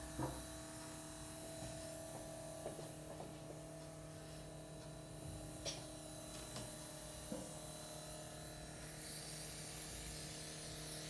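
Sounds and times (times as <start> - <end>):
steady electric hum: 0.0 - 11.0.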